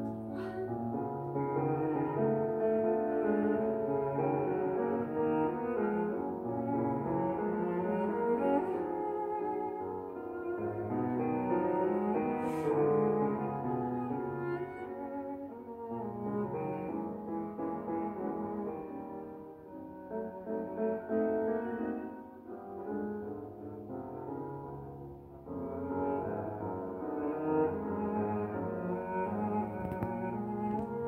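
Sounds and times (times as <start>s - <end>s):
cello music over loudspeaker: 0.0s - 31.0s.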